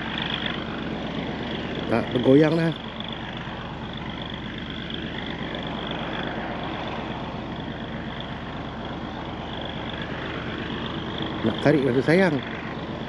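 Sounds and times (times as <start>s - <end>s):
distant engine running: 0.0s - 13.0s.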